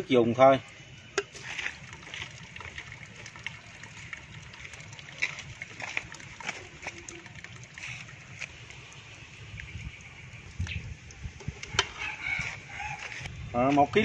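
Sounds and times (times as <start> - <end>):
liquid trickling and sloshing: 0.1 - 13.3.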